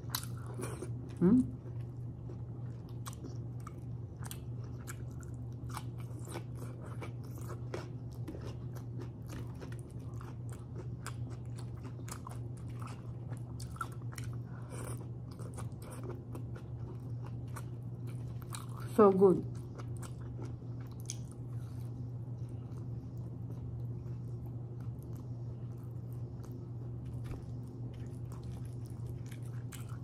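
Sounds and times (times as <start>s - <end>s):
person chewing: 0.0s - 18.9s, 19.5s - 30.0s
low steady hum: 0.0s - 30.0s.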